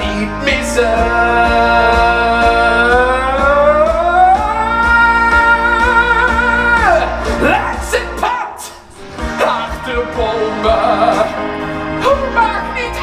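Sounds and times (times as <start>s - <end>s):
backing music with a beat: 0.0s - 13.0s.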